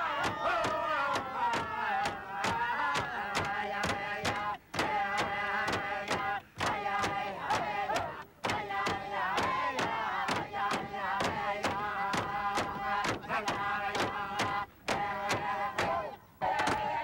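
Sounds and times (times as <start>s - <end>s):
group chanting: 0.0s - 17.0s.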